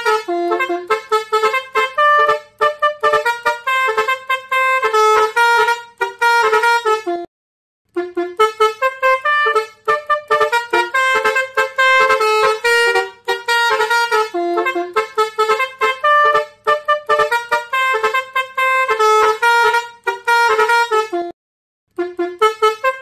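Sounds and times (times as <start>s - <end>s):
musical air horn tune: 0.0s - 7.3s, 7.9s - 23.0s.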